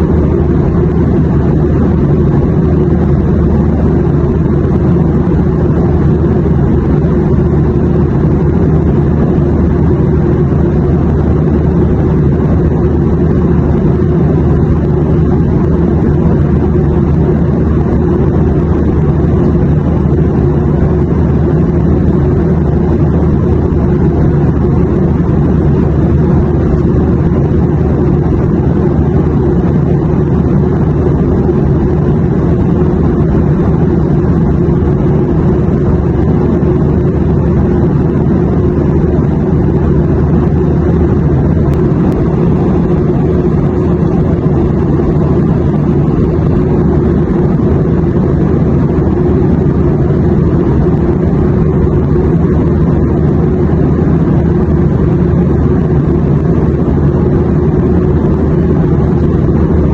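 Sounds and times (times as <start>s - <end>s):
airplane cabin drone: 0.0s - 59.9s
low hums: 0.0s - 59.9s.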